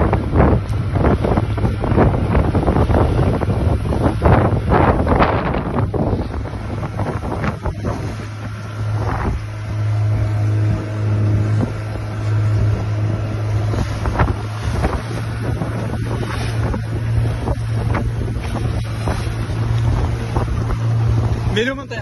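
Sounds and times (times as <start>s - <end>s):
boat engine humming: 0.0s - 22.0s
water slapping against hull: 0.0s - 22.0s
wind buffeting microphone: 0.0s - 22.0s.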